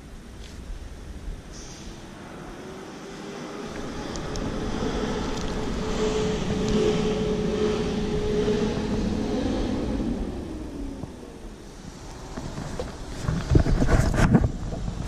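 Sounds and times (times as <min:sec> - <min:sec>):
vehicle crossing bridge overhead: 0:00.0 - 0:13.2.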